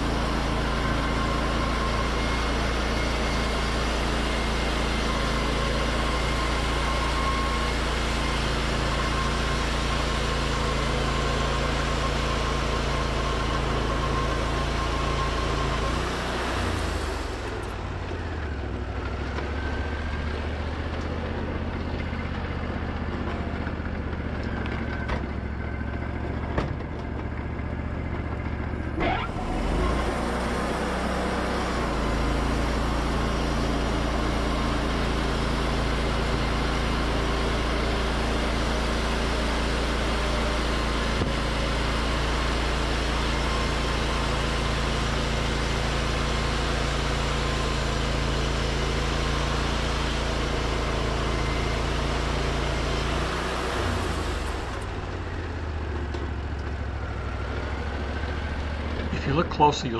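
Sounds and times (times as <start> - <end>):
sawmill engine revving: 0.0 - 26.6, 27.3 - 59.9.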